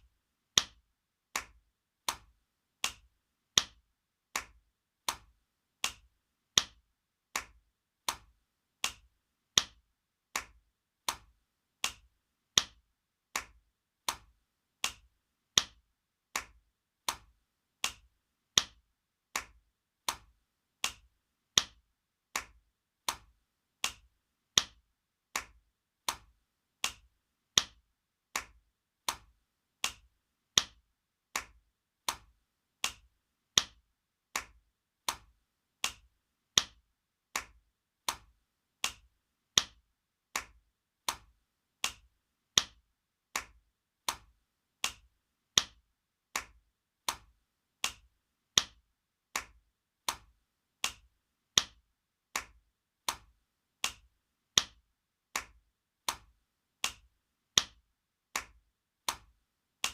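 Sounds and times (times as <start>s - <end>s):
hand slapping skin: 0.6s - 54.8s, 55.4s - 59.9s.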